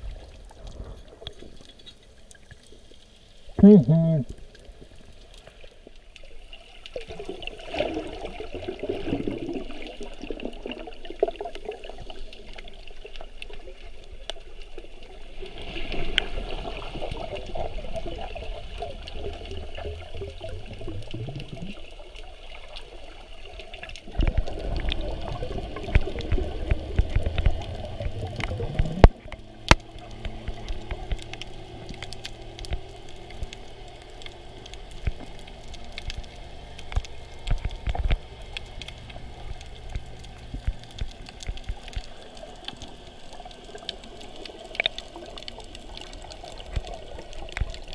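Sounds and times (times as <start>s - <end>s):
muffled underwater water gurgling: 0.0s - 47.9s.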